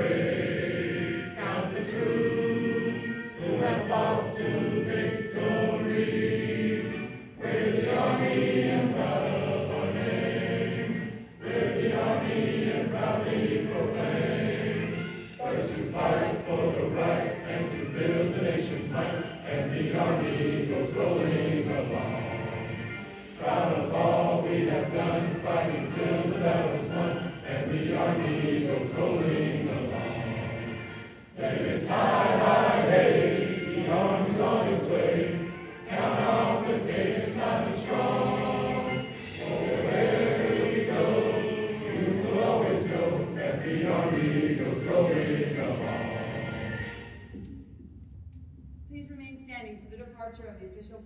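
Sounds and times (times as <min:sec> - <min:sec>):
choir singing with music: 0:00.0 - 0:48.2.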